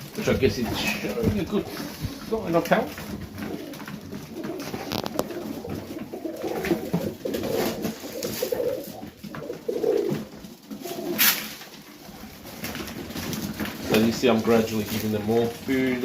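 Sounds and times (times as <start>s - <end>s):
pigeons cooing: 0.0s - 16.0s
sharp clicks and rustles: 0.0s - 16.0s.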